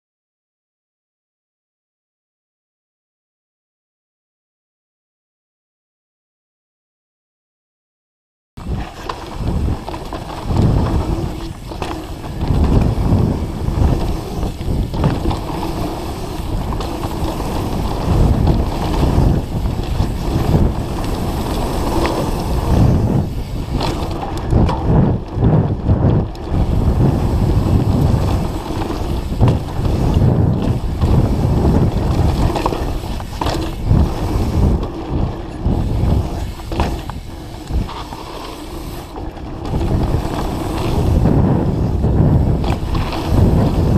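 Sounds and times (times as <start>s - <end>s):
bike knocking and rattling: 8.6s - 43.9s
wind buffeting microphone: 8.6s - 43.9s.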